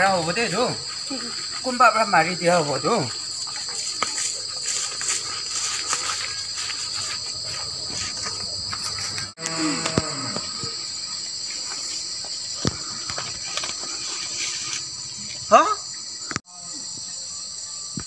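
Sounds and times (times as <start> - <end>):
footsteps through undergrowth: 0.0 - 15.5
rustling in undergrowth: 0.0 - 16.3
insects chirping: 0.0 - 18.0.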